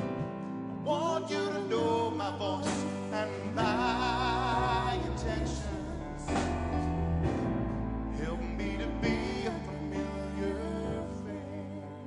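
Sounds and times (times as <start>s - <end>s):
keyboard accompaniment: 0.0s - 12.0s
person singing with vibrato: 0.8s - 6.9s, 8.1s - 12.0s
steady low notes: 2.0s - 11.8s.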